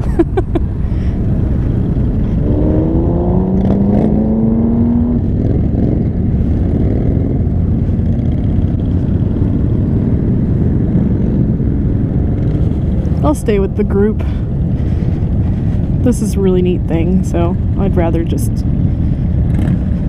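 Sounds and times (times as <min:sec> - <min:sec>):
motorcycle engine accelerating: 0:00.0 - 0:20.0
motorcycle engines: 0:00.0 - 0:20.0
wind rush on microphone: 0:00.0 - 0:20.0.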